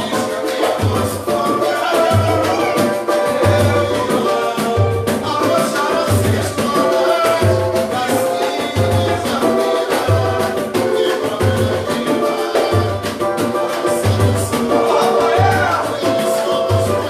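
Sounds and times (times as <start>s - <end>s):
samba group playing: 0.0s - 17.0s.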